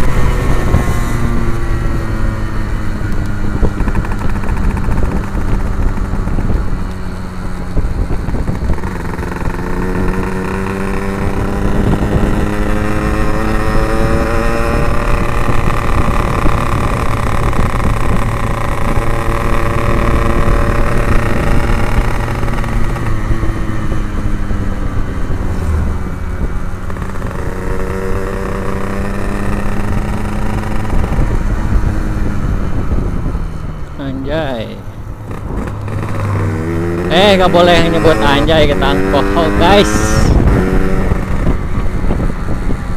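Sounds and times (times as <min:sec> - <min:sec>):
two-stroke motorcycle engine revving: 0:00.0 - 0:42.9
wind rumble on microphone: 0:00.0 - 0:42.9.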